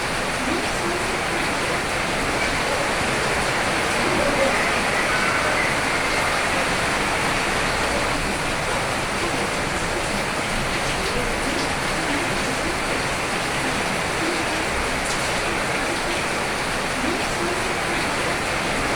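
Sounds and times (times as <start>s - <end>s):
rain falling: 0.0s - 18.9s.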